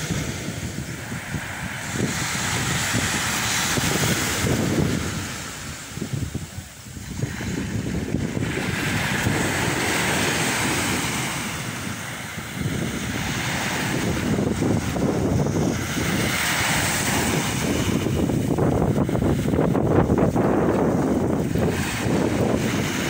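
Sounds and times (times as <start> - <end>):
sea waves washing ashore: 0.0 - 23.0
wind buffeting microphone: 0.0 - 23.0.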